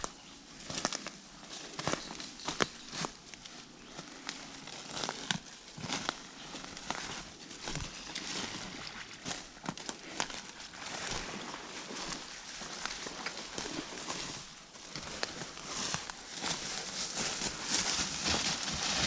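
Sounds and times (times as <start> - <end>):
footsteps crunching dry leaves: 0.0 - 19.0.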